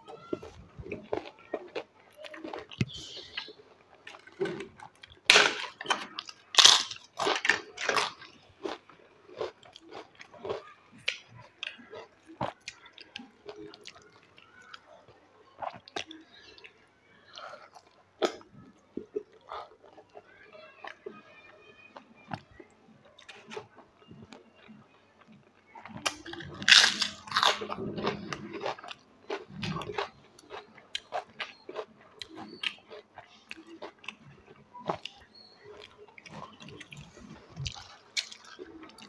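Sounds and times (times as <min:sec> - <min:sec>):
person chewing crunchy fried food: 0:00.1 - 0:14.9, 0:15.6 - 0:20.2, 0:22.3 - 0:39.0.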